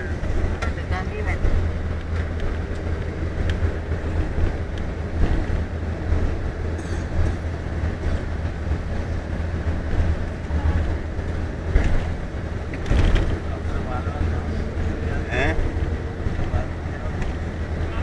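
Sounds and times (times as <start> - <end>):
road vehicle rumble: 0.0 - 18.0.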